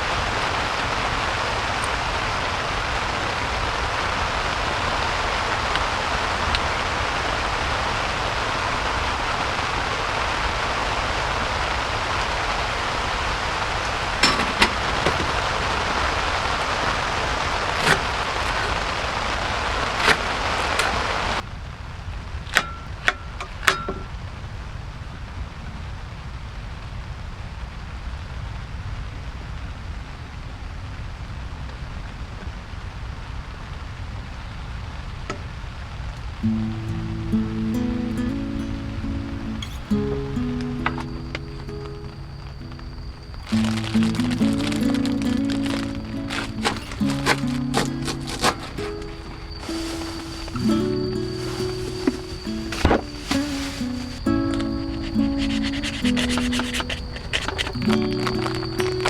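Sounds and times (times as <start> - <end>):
heavy rain hissing: 0.0 - 22.1, 24.8 - 59.0.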